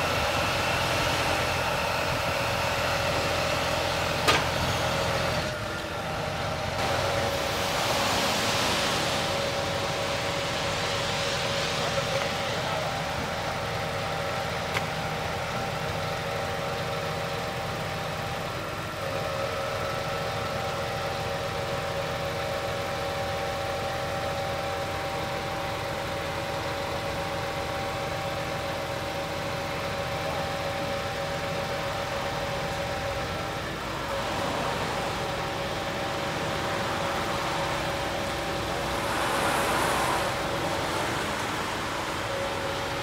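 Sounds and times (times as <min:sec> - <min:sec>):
high engine whine: 0:00.0 - 0:43.0
truck engine hum: 0:00.0 - 0:43.0.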